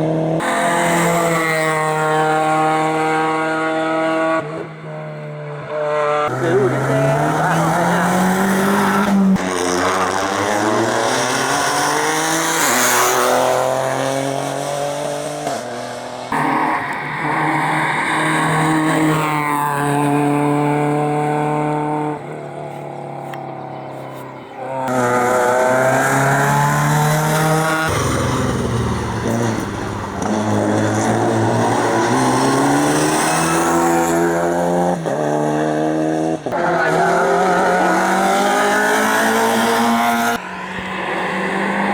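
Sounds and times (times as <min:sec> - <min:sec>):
racing car engines revving: 0:00.0 - 0:41.9.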